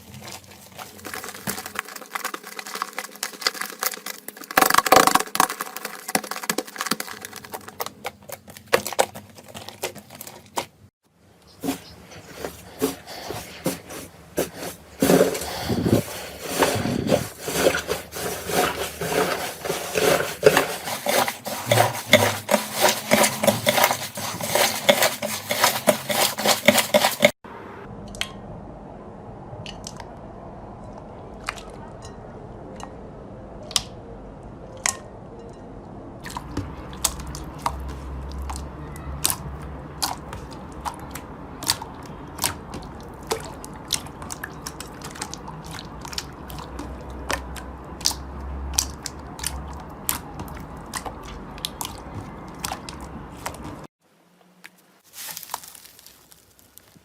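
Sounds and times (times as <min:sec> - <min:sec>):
slime crackling and squelching: 0:00.0 - 0:10.9, 0:11.5 - 0:27.4, 0:36.2 - 0:53.9, 0:55.0 - 0:57.0.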